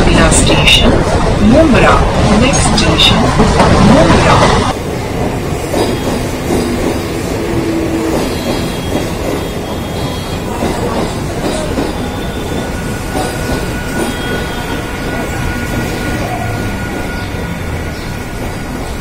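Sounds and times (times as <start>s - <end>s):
train wheels rumbling and clattering: 0.0s - 19.0s.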